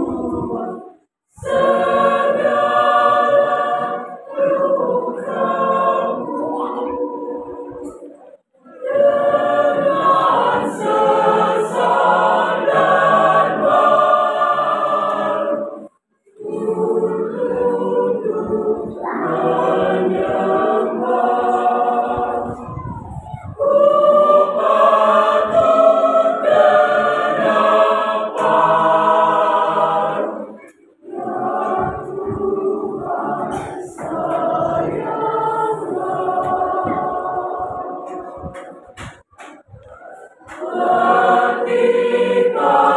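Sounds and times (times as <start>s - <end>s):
mixed choir singing unaccompanied: 0.0s - 42.9s.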